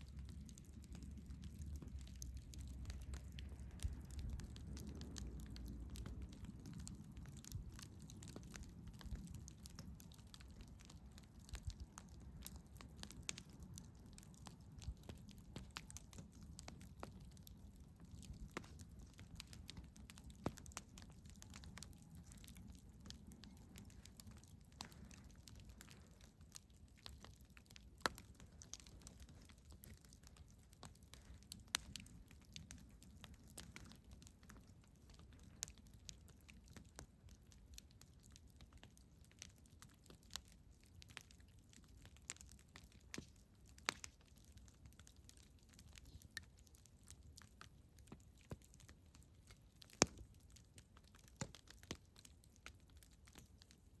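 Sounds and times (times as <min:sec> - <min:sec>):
campfire crackling and popping: 0:00.0 - 0:54.0
low rumble of burning fire: 0:00.0 - 0:54.0.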